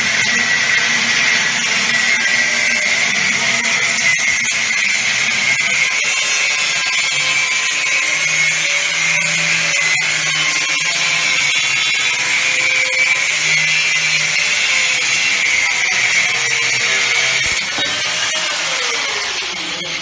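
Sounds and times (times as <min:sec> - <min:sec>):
angle grinder cutting metal: 0:00.0 - 0:20.0.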